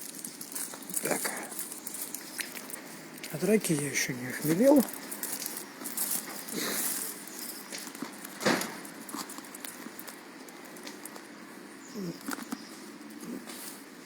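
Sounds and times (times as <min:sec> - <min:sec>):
bonfire crackling: 0:00.0 - 0:11.6.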